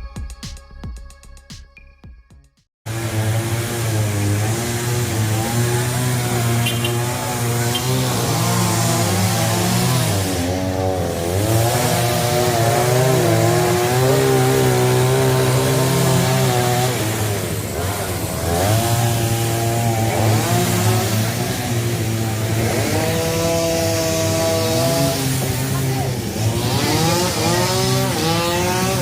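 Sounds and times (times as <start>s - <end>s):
chainsaw engine at high revs: 2.9s - 29.0s.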